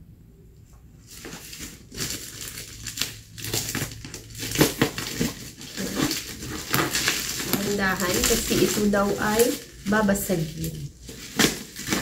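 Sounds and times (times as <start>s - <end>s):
bubble wrap crinkling: 0.9s - 12.0s.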